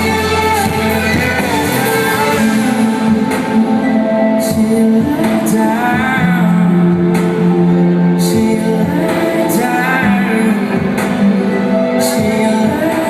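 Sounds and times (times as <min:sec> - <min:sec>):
live pop band music: 0:00.0 - 0:13.0.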